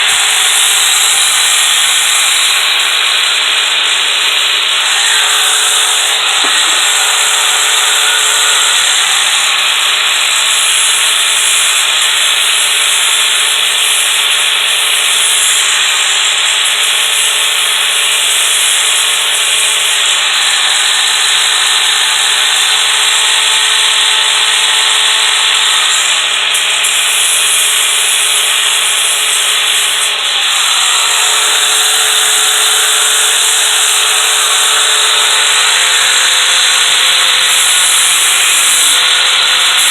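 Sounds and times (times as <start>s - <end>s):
sanding disc grinding steel: 0.0s - 39.9s
tool motor humming: 0.0s - 39.9s.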